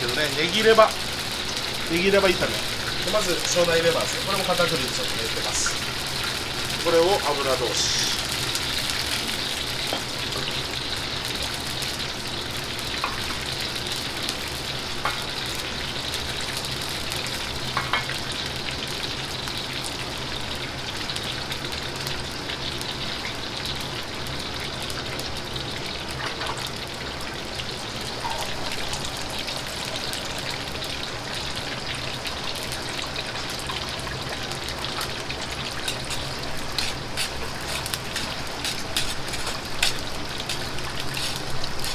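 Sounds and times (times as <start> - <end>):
gas burner rumble: 0.0 - 41.9
oil sizzling and bubbling: 0.0 - 41.9.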